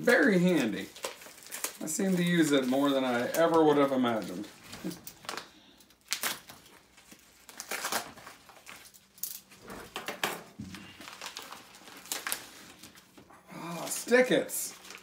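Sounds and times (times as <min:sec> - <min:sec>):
paper mailer rustling: 0:00.0 - 0:15.0.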